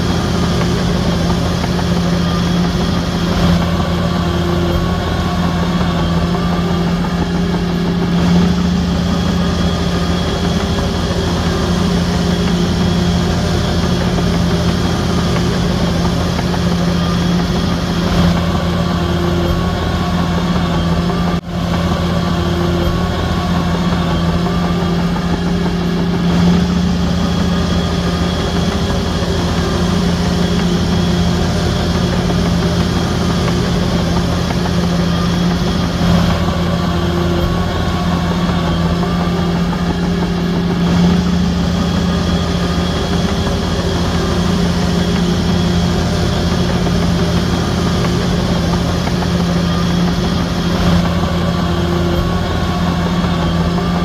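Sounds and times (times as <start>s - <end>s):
bulldozer diesel engine running: 0.0s - 54.0s
faint wavering whine: 0.0s - 54.0s.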